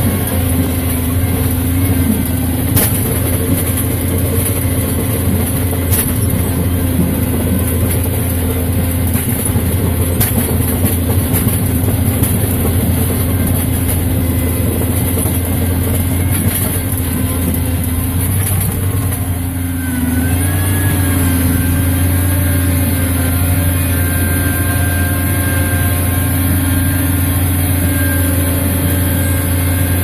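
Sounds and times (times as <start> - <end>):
garden tractor engine running: 0.0 - 30.0.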